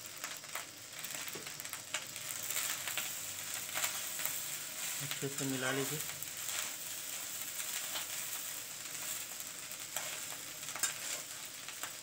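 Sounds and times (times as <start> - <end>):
rice sizzling in a pan: 0.0 - 12.0.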